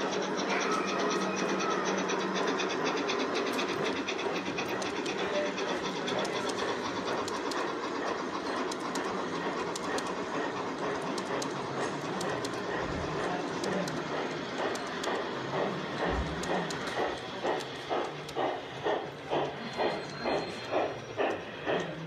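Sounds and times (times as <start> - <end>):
model steam locomotive chuffing: 0.0 - 22.0
model train wheels clicking: 0.0 - 22.0.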